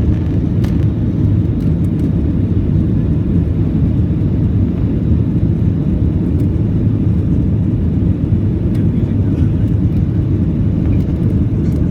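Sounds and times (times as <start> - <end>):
airliner engines rumbling: 0.0 - 11.9.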